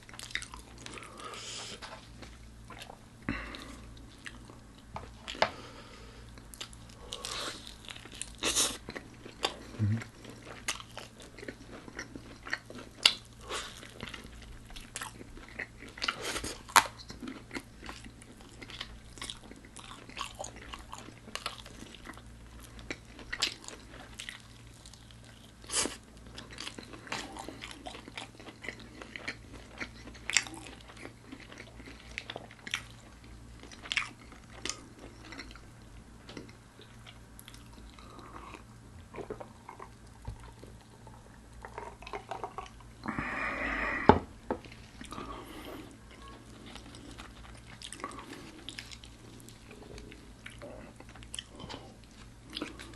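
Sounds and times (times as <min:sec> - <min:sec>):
crunching fried food: 0:00.0 - 0:04.6, 0:06.4 - 0:42.9, 0:44.7 - 0:52.9.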